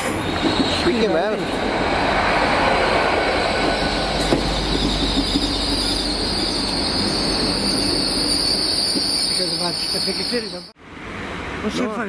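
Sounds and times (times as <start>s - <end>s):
train wheels squealing: 0.0s - 1.5s, 2.5s - 10.7s
train running rumble: 0.0s - 11.6s.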